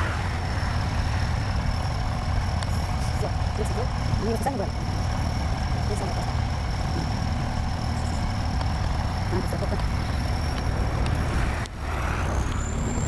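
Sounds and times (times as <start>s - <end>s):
diesel engine rumbling: 0.0s - 13.0s
thin high whine: 0.0s - 13.0s.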